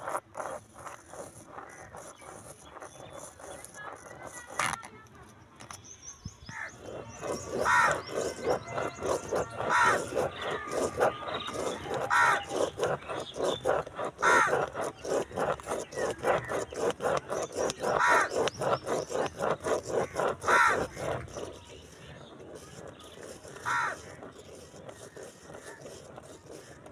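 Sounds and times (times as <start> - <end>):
pen scratching on paper: 0.0 - 5.9, 6.5 - 26.9.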